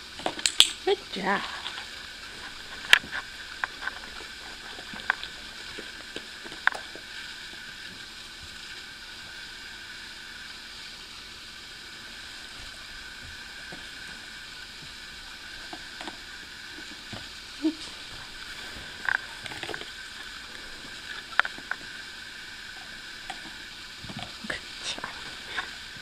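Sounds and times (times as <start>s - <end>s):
room noise hiss: 0.0s - 26.0s.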